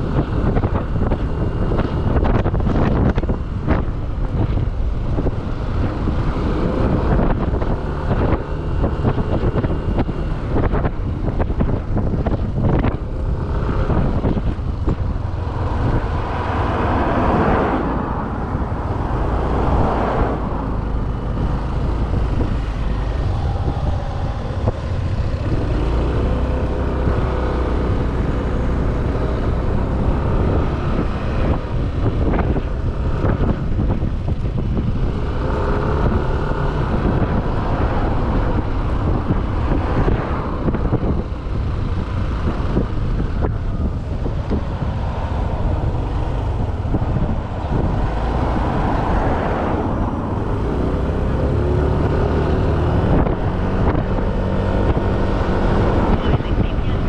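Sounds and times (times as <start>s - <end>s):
motorbike engine: 0.0s - 57.0s
road noise: 0.0s - 57.0s
wind buffeting microphone: 0.0s - 57.0s.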